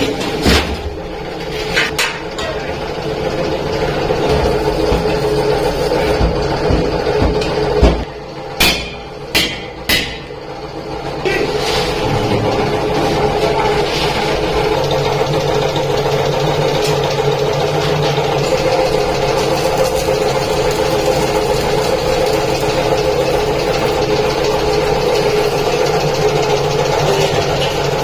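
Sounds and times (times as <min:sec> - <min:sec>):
machine motor humming: 0:02.2 - 0:28.0.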